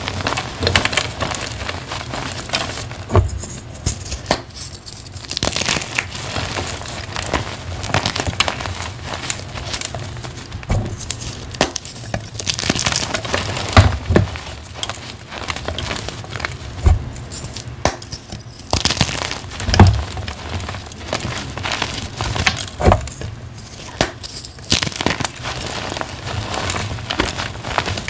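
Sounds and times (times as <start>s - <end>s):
chalk crumbling in hands: 0.0s - 28.0s.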